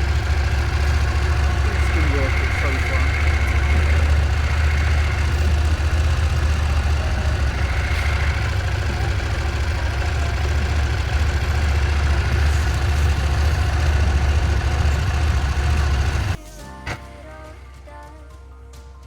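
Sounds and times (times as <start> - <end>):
low ship engine rumble: 0.0 - 17.0
constant hiss: 0.0 - 18.9.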